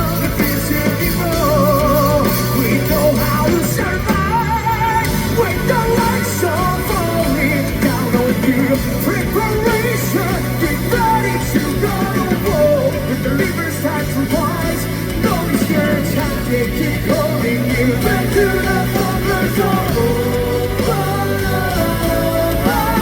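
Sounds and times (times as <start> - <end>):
live rock band playing: 0.0 - 23.0
person singing: 0.0 - 23.0.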